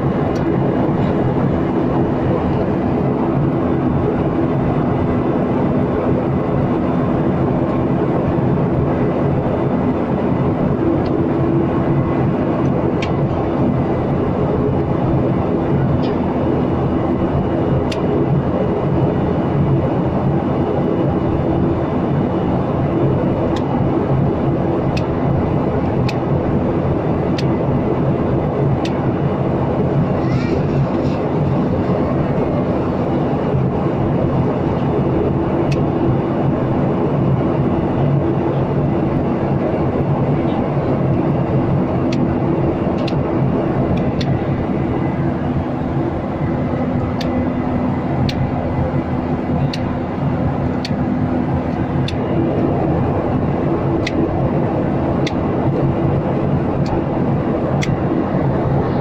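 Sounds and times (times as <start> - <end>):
airflow and engine rush: 0.0 - 59.0
low cabin hum: 0.0 - 59.0.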